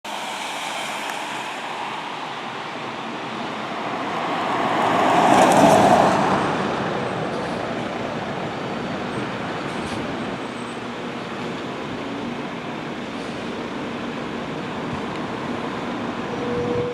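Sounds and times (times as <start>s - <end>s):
roadway hum: 0.0s - 16.9s
road vehicle passing: 0.1s - 16.9s.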